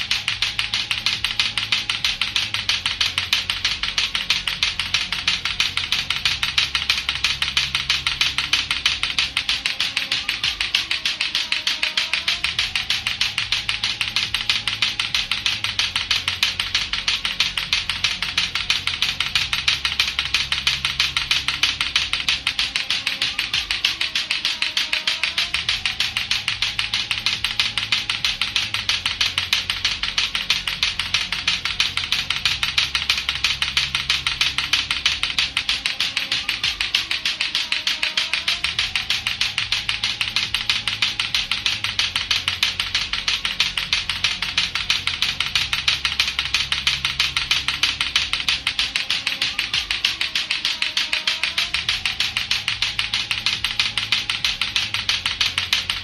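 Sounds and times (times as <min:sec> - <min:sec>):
clacker toy clacking rapidly: 0:00.0 - 0:56.0.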